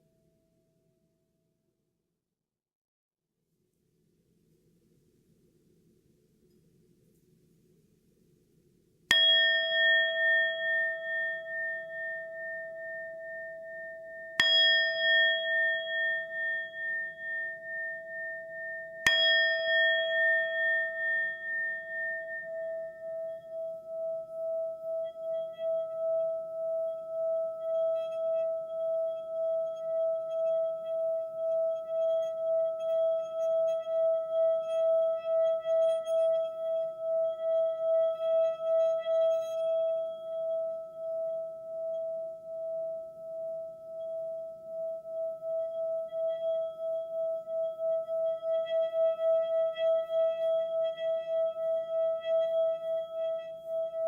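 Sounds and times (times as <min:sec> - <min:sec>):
singing bowl ringing: 0:09.1 - 0:54.0.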